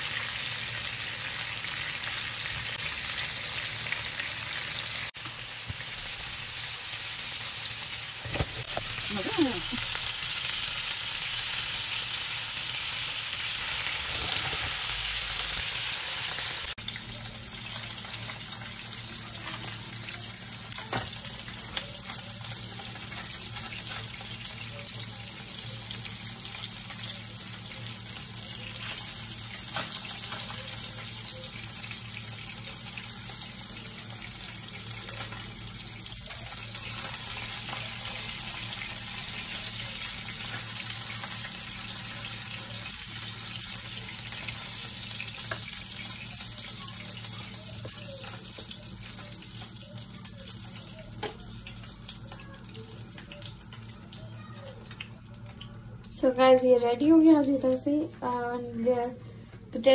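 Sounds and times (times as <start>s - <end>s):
fish sizzling in a frying pan: 0.0s - 59.9s.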